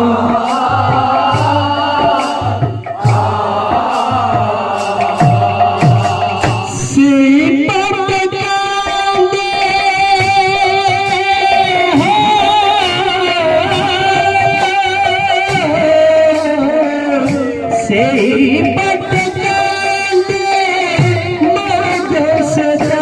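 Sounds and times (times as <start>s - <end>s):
lead voice singing through pa: 0.0s - 23.0s.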